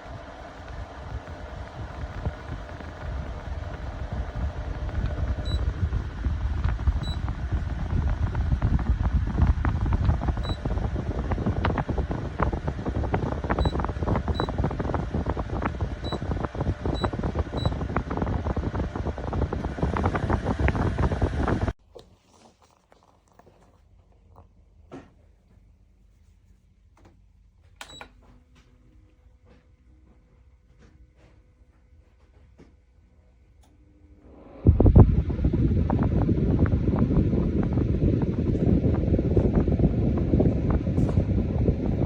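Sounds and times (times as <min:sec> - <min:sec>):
air conditioner fan rushing: 0:00.0 - 0:21.8, 0:26.6 - 0:42.0.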